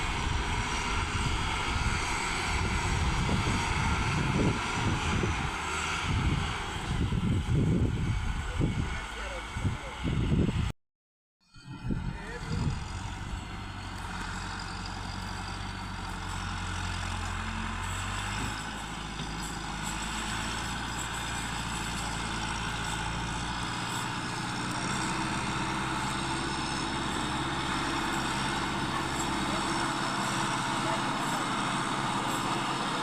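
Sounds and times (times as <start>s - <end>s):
tractor engine running: 0.0s - 10.7s, 11.7s - 33.0s.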